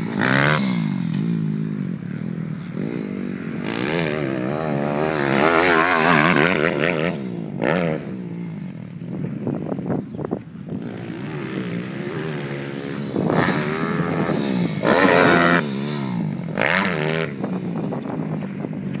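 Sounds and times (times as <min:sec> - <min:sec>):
pit bike engine revving: 0:00.0 - 0:09.2, 0:10.8 - 0:18.2.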